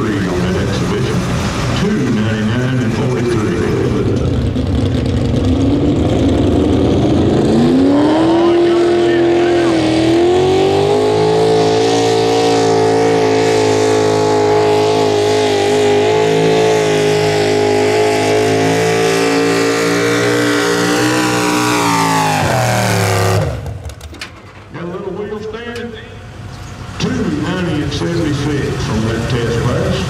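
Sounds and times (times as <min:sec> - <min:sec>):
diesel truck engine at high revs: 0:00.0 - 0:30.0.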